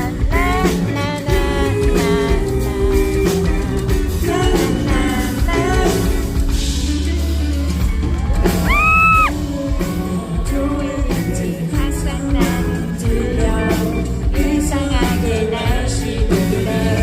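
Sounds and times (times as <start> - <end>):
live band playing pop-rock: 0.0 - 17.0
person singing: 0.0 - 17.0.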